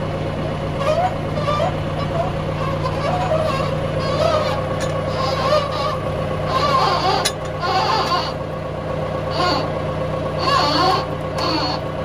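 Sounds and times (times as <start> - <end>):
tractor engine idling: 0.0 - 12.0
animal calls: 0.8 - 8.4, 9.3 - 9.8, 10.4 - 11.9.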